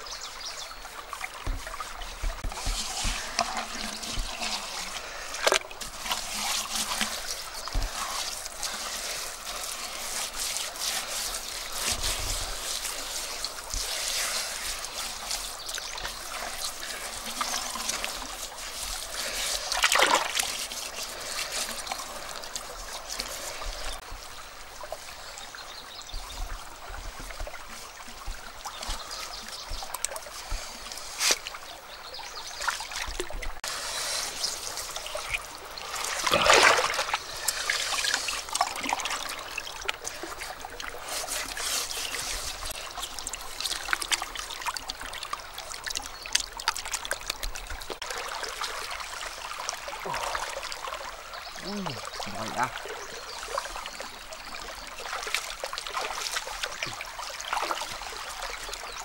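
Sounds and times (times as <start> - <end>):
water trickling and splashing: 0.0 - 59.0
hands squelching wet mud: 1.0 - 24.1, 26.2 - 31.7, 32.4 - 59.0.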